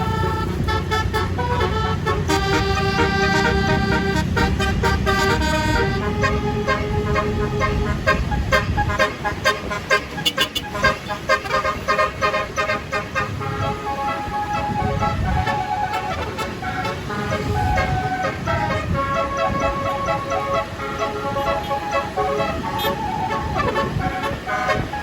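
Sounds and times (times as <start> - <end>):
bus engine rumble: 0.0 - 25.0
bus multi-tone horn tune: 0.0 - 25.0.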